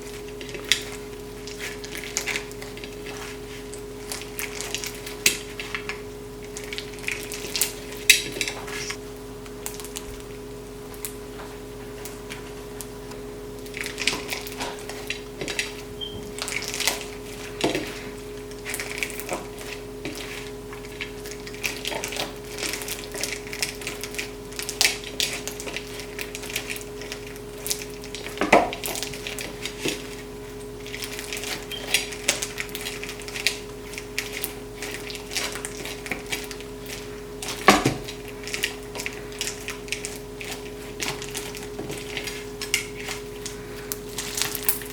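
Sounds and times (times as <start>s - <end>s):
crunchy slime being squeezed: 0.0s - 11.2s, 11.9s - 44.9s.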